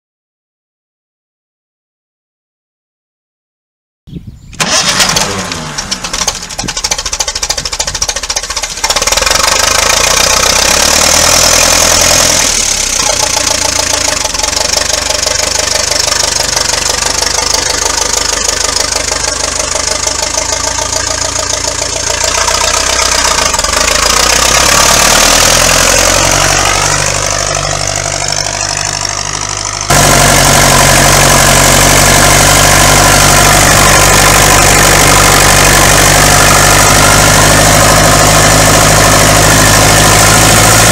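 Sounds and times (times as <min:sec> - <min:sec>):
tractor engine running: 0:04.6 - 0:40.9.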